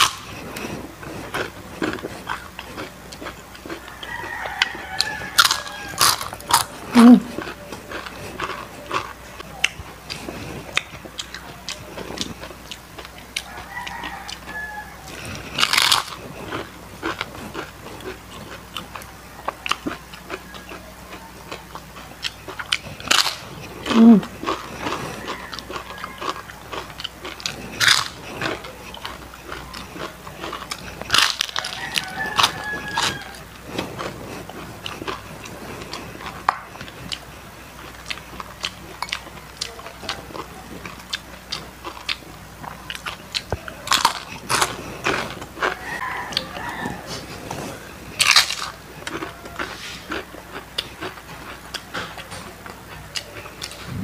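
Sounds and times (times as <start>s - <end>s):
crunching and chewing fried chicken: 0.0s - 54.0s.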